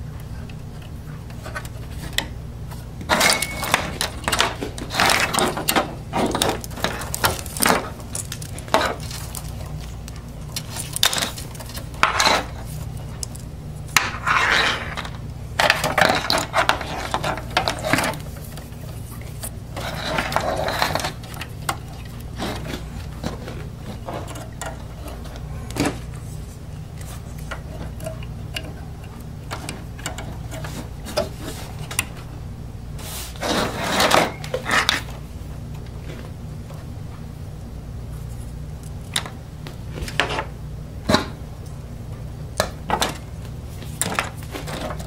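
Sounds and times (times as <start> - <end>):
steady low hum: 0.0 - 45.0
cables rustling against metal: 0.7 - 36.9, 42.9 - 45.0.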